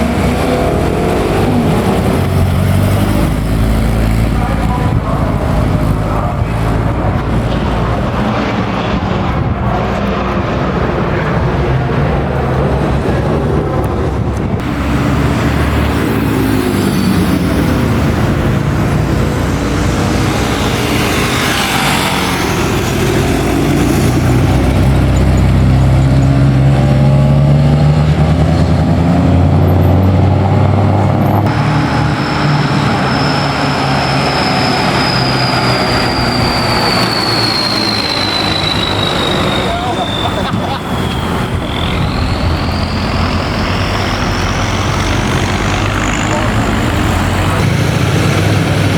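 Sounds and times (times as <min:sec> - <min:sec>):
car engines driving by: 0:00.0 - 0:48.9.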